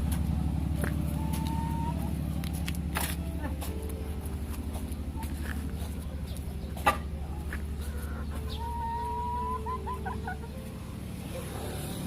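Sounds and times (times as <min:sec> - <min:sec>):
chickens clucking: 0:00.0 - 0:12.0
low mechanical drone: 0:00.0 - 0:12.0.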